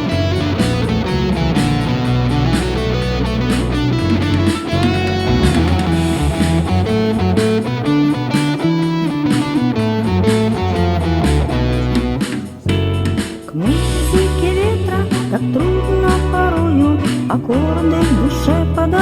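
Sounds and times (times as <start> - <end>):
bass and drums: 0.0 - 19.0
electric guitar lead: 0.0 - 19.0.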